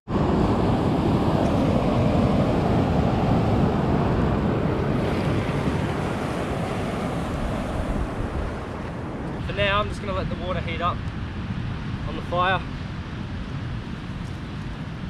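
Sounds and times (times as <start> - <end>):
surf washing over rocks: 0.1 - 15.0
wind on microphone: 0.1 - 15.0.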